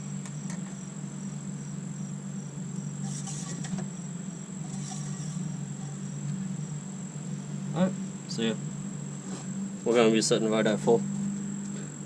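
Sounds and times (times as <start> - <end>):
insects chirping: 0.0 - 12.0
steady low hum: 0.0 - 12.0.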